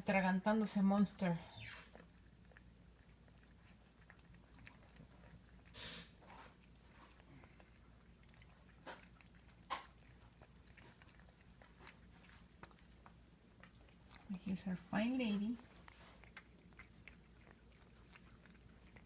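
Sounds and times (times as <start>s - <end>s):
cat chewing and crunching: 0.0s - 19.0s.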